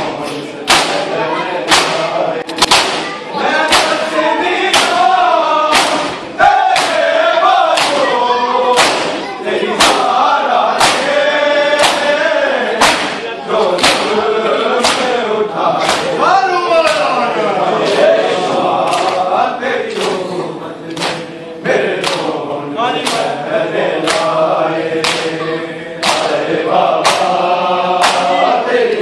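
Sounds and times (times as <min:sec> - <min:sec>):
crowd beating chests: 0:00.0 - 0:17.2, 0:17.9 - 0:29.0
men chanting: 0:00.0 - 0:29.0.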